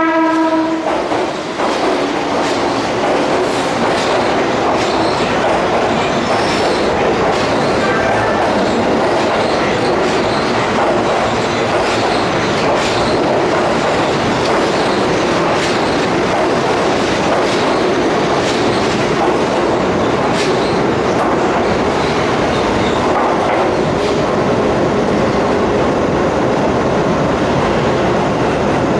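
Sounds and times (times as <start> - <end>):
rumble of train wheels on rail: 0.0 - 28.9.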